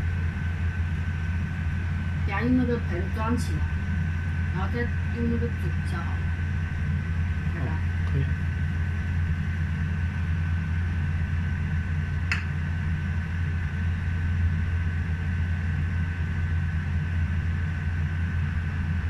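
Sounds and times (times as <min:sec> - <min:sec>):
faint steady whine: 0:00.0 - 0:19.0
low mechanical hum: 0:00.0 - 0:19.0.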